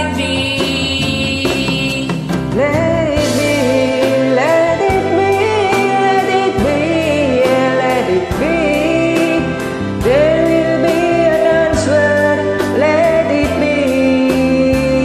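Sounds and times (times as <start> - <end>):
karaoke backing track: 0.0 - 15.0
woman singing: 0.0 - 15.0.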